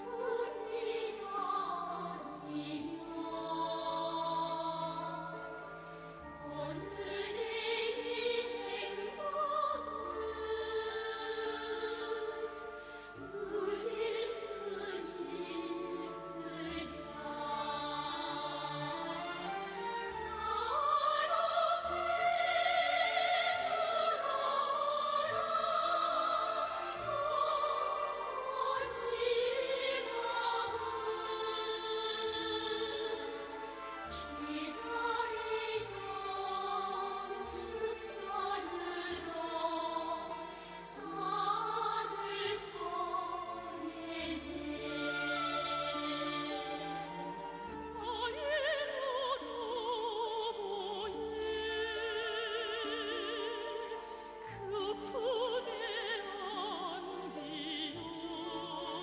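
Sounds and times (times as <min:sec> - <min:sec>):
operatic singing: 0:00.0 - 0:59.0
orchestral strings: 0:00.0 - 0:59.0.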